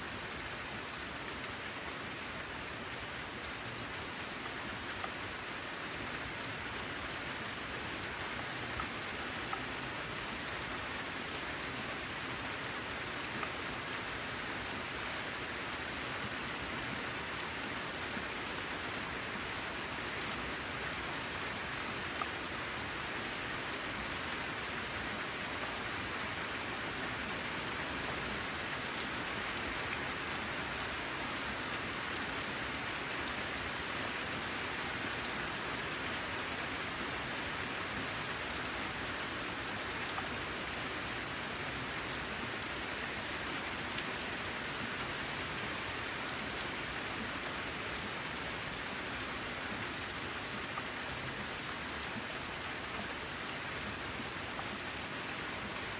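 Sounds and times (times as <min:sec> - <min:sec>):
rain on a metal roof: 0:00.0 - 0:55.9.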